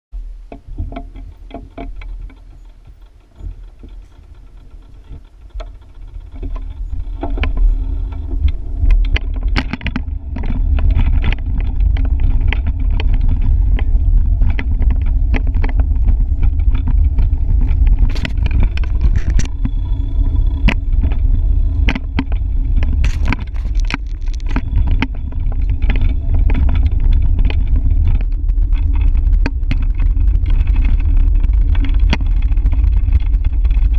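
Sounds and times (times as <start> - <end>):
wind buffeting microphone: 0.3 - 33.9
bicycle clicks and rattles: 0.5 - 33.9.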